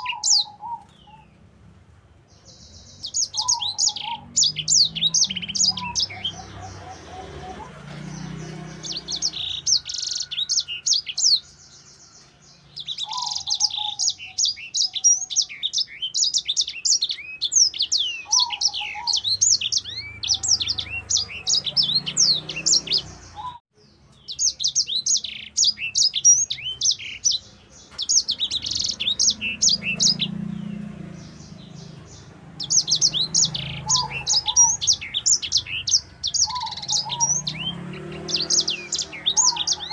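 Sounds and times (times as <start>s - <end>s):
finch singing twittering song: 0.0s - 39.9s.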